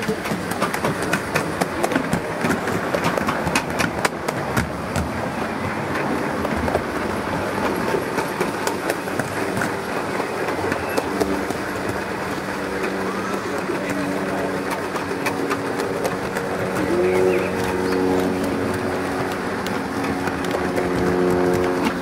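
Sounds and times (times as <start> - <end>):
train rolling rumble: 0.0 - 22.0
train wheels clicking on track: 0.0 - 22.0.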